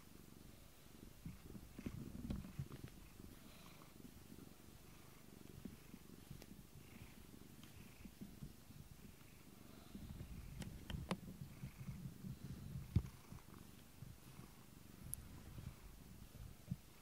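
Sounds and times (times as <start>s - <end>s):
cat purring faintly: 0.0s - 17.0s.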